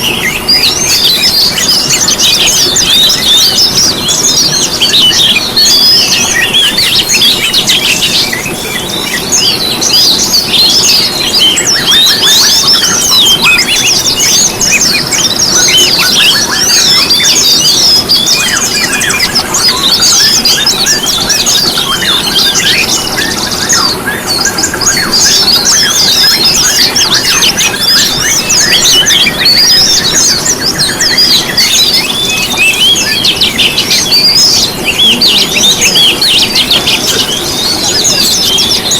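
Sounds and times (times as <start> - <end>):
songbirds chirping and trilling: 0.0 - 38.9
steady background noise: 0.0 - 38.9.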